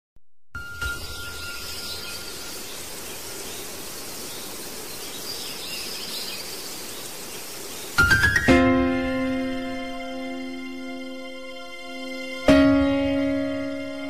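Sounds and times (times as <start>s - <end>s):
steady background hiss: 0.6s - 14.0s.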